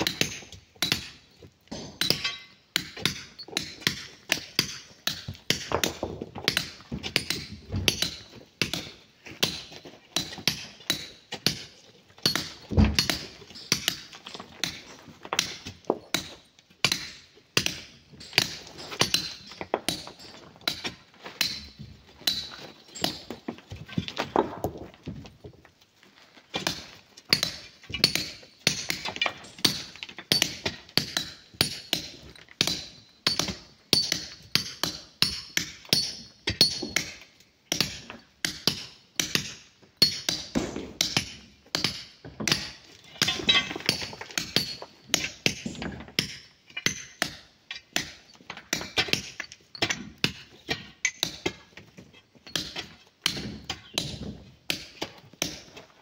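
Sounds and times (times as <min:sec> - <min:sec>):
hammers clinking on chisels: 0:00.0 - 0:24.2, 0:26.6 - 0:55.7.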